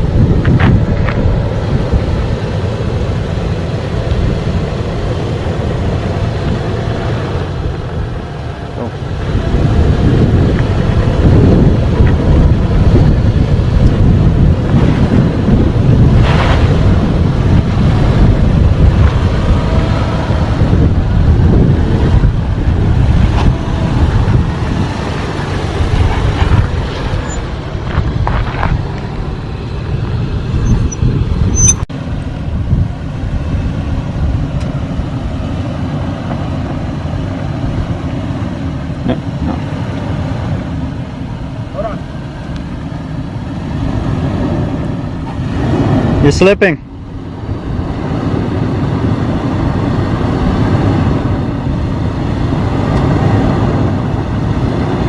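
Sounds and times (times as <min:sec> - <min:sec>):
low vehicle rumble: 0:00.0 - 0:55.0.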